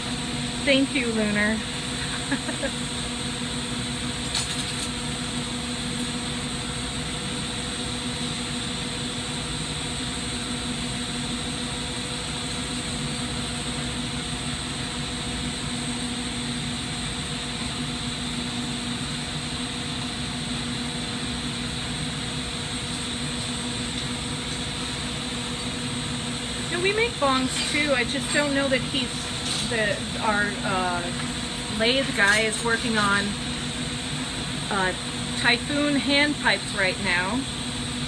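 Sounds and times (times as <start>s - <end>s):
exhaust fan humming: 0.0s - 38.0s.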